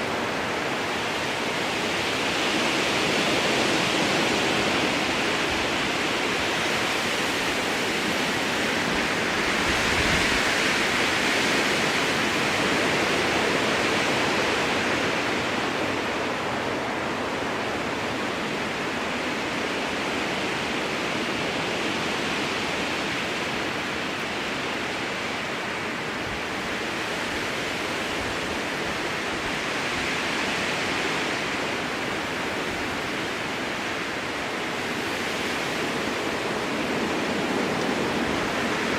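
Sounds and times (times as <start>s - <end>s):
strong wind in conifer branches: 0.0s - 38.9s.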